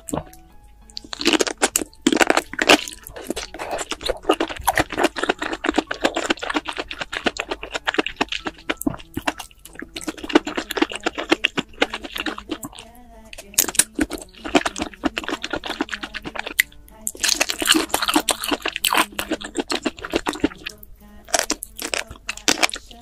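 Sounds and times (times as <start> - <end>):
person chewing wet crunching: 0.0 - 23.0.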